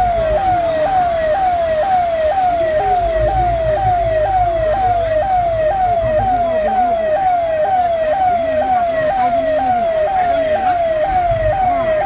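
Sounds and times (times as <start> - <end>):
siren gliding down in pitch: 0.0 - 12.0.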